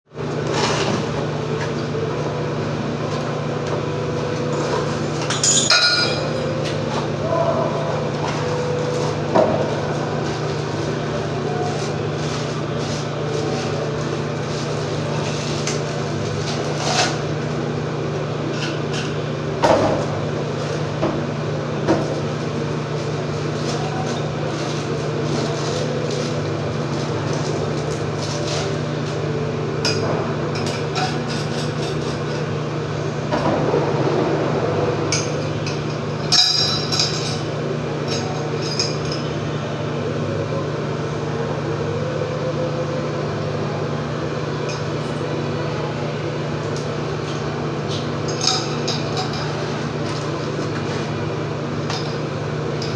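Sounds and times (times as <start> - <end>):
steady low hum: 0.1 - 52.9.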